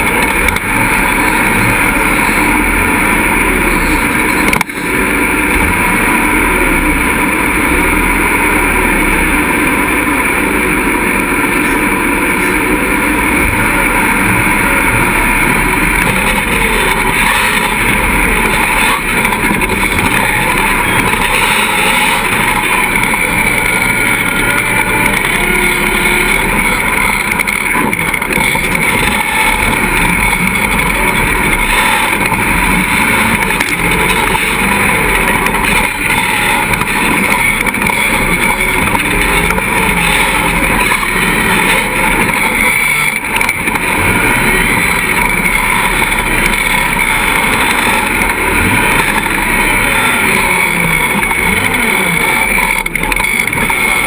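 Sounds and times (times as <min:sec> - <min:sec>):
off-road buggy engine: 0:00.0 - 0:54.0.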